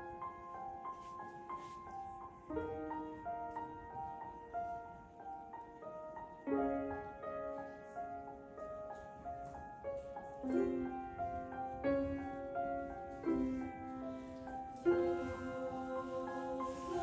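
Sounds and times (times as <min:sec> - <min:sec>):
solo piano chords: 0:00.0 - 0:17.0.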